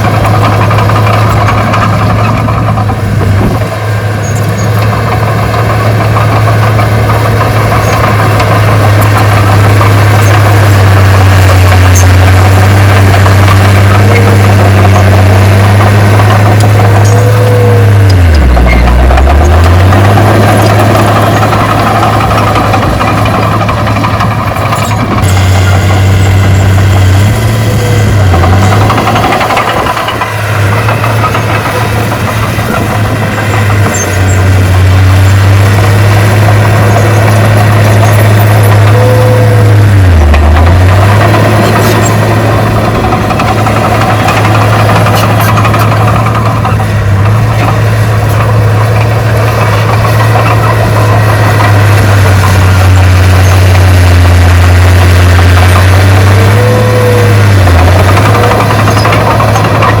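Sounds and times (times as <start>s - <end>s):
heavy diesel engine running: 0.0s - 60.0s.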